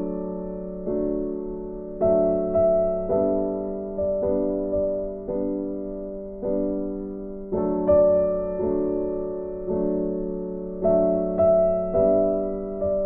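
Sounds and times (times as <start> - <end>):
soft electric piano chords: 0.0 - 13.0.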